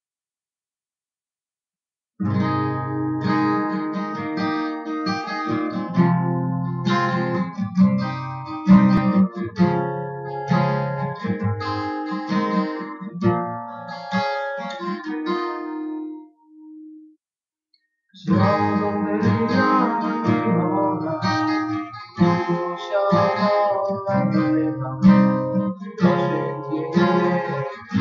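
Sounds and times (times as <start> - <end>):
acoustic guitar chords: 2.2 - 17.2, 18.2 - 28.0.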